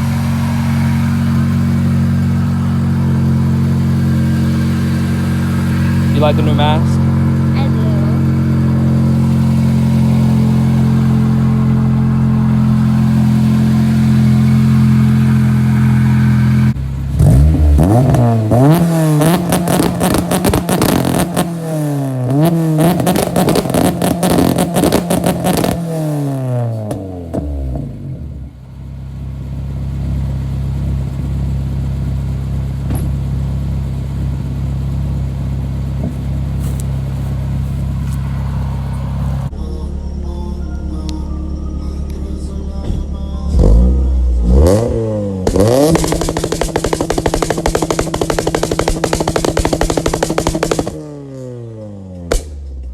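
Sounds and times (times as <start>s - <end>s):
car engine accelerating through gears: 0.0s - 28.6s, 35.5s - 39.6s, 42.0s - 52.9s.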